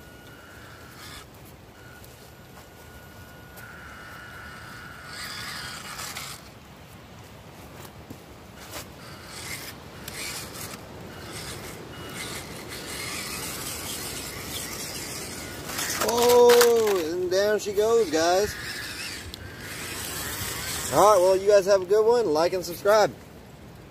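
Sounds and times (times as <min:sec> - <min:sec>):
electric motor and gears whining: 0:00.0 - 0:07.0, 0:07.7 - 0:23.1
tyres scraping over wet dirt: 0:00.0 - 0:23.1.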